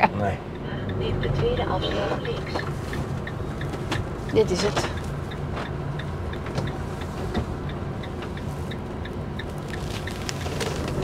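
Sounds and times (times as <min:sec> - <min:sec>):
vehicle engine and tyres running: 0:00.0 - 0:11.0
light regular ticking: 0:00.2 - 0:11.0.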